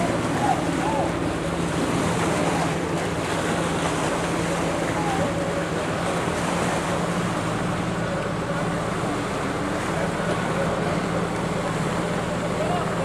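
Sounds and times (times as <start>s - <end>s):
low machine drone: 0.0s - 13.0s.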